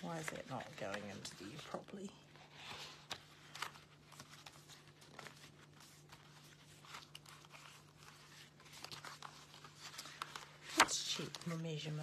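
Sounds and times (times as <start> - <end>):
cardstock rustling and scraping: 0.0 - 12.0.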